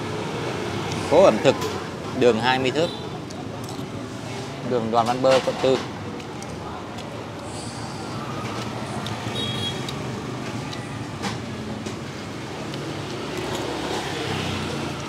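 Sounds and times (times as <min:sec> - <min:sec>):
traffic passing: 0:00.0 - 0:15.0.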